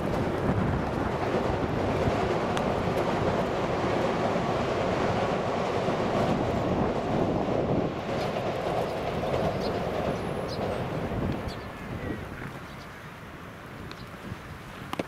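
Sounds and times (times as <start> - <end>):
train rumbling past: 0.0 - 13.8.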